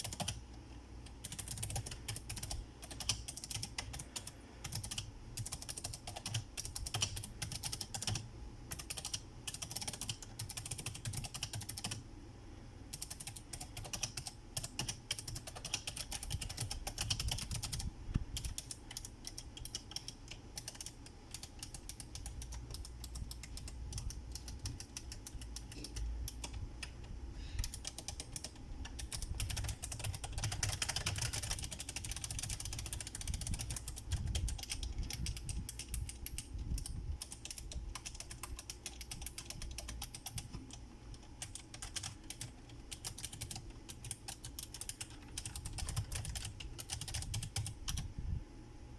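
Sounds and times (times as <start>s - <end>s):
clicky keyboard typing: 0.0s - 12.0s, 12.9s - 48.1s.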